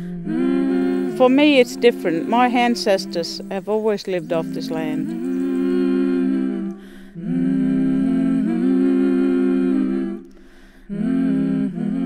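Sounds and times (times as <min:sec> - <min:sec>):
person humming: 0:00.0 - 0:11.1.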